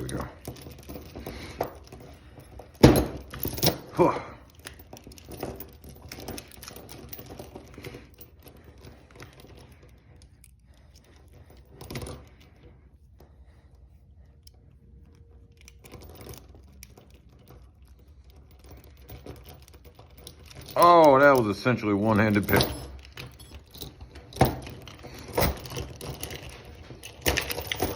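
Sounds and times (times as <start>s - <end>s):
lock picks clicking and scraping: 0.0s - 12.8s, 13.7s - 27.9s.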